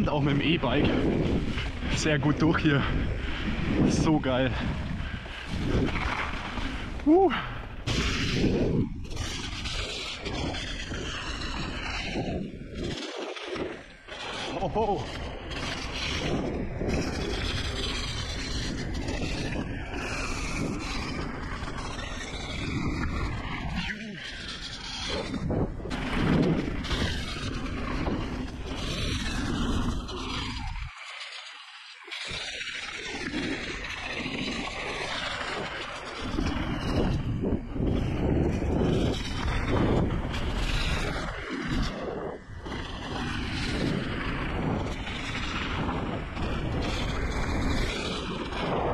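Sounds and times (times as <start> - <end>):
wind rushing over microphone: 0.0 - 31.4, 32.0 - 48.9
bike tyres rolling on dirt: 0.0 - 48.9.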